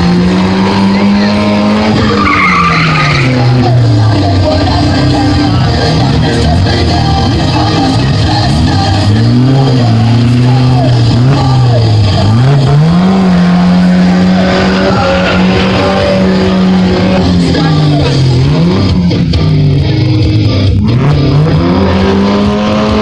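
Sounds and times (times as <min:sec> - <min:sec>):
music playing: 0:00.0 - 0:23.0
vehicle engine revving: 0:00.0 - 0:23.0.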